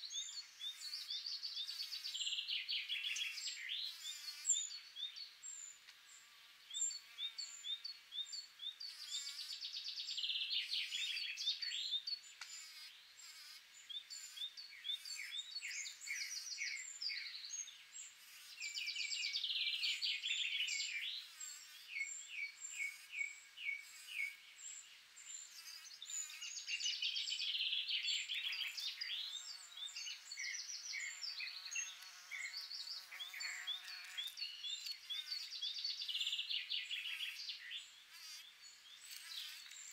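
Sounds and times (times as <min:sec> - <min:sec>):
songbirds chirping and trilling: 0:00.0 - 0:39.9
bumblebee buzzing: 0:00.6 - 0:04.8, 0:08.7 - 0:11.5, 0:12.3 - 0:39.9.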